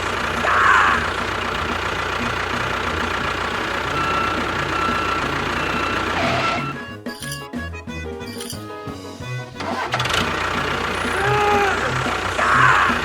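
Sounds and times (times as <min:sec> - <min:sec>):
vehicle engine idling: 0:00.0 - 0:08.0, 0:09.2 - 0:13.0.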